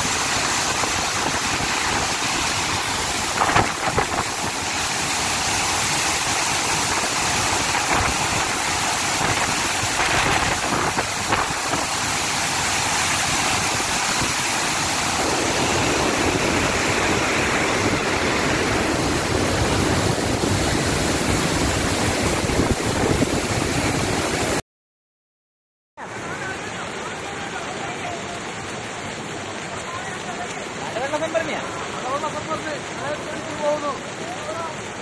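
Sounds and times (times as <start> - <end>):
floodwater rushing: 0.0 - 24.6, 26.0 - 35.0.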